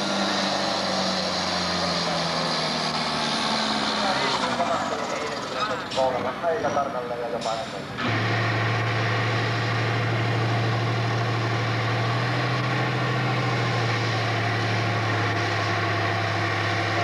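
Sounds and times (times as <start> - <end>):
tractor engine running under load: 0.0 - 6.5, 7.8 - 17.0.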